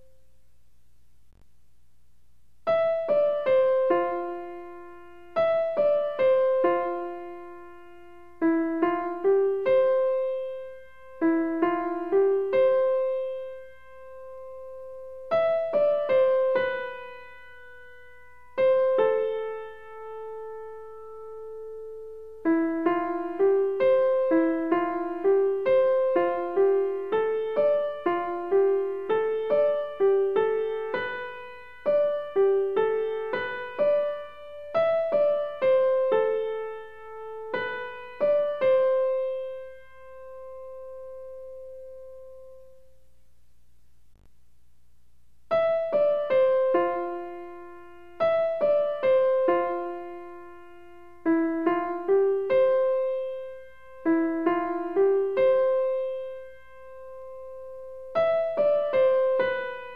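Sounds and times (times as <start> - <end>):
solo piano music: 2.6 - 43.2, 45.5 - 59.9.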